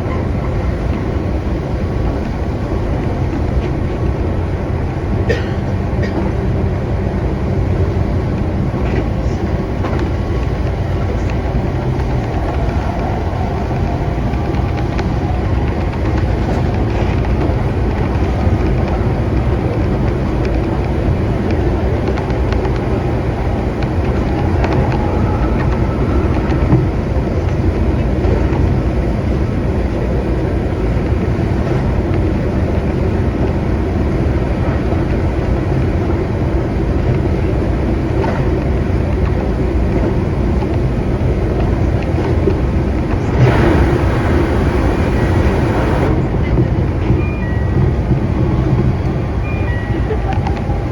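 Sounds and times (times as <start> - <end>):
train wheels rumbling: 0.0 - 50.9.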